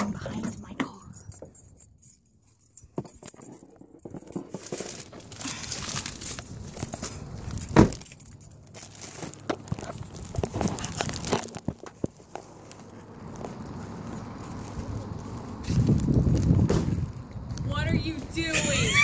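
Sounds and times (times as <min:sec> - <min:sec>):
rubbing and rustling: 0:02.6 - 0:17.9.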